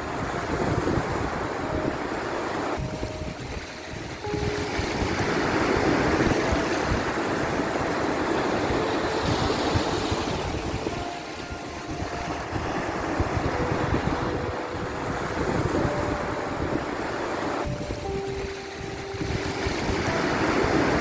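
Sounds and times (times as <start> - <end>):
sea waves washing in: 0.0 - 21.0
wind: 0.0 - 21.0.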